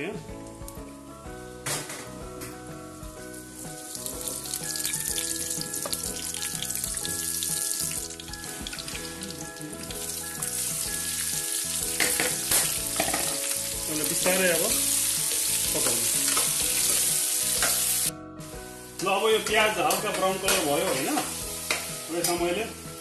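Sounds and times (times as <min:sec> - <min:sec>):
onions sizzling in oil: 0:03.0 - 0:23.0
seeds sizzling in hot oil: 0:03.2 - 0:23.0.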